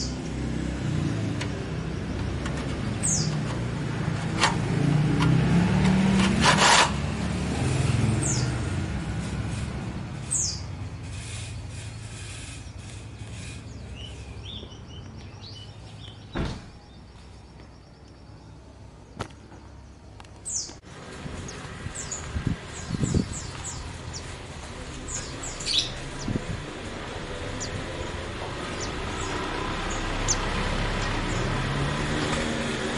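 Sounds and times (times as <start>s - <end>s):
songbirds chirping: 0.0s - 6.0s, 7.3s - 9.2s, 10.0s - 32.9s.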